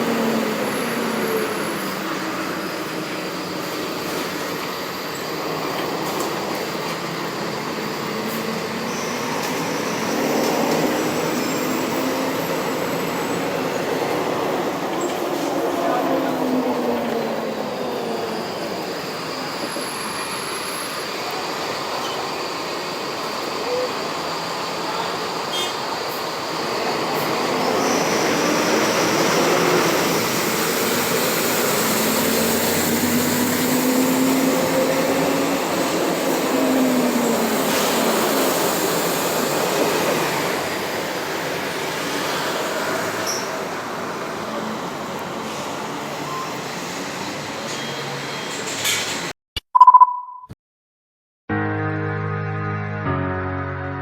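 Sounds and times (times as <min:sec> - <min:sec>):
diesel bus running: 0:00.0 - 0:49.3.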